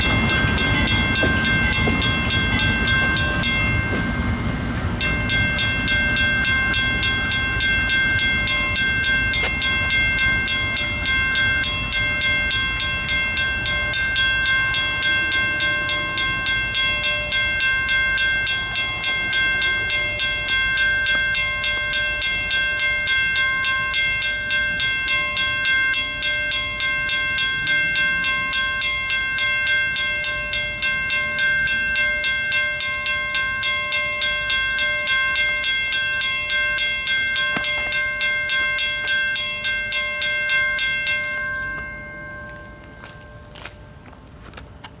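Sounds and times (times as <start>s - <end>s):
mechanical crossing bell ringing: 0.0s - 44.6s.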